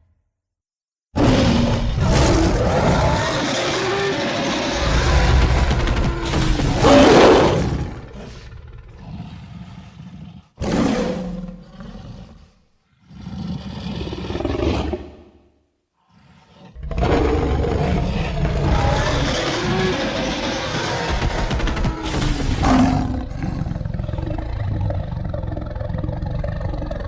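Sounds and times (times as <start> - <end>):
monster roars: 1.2 - 12.5, 16.1 - 27.0.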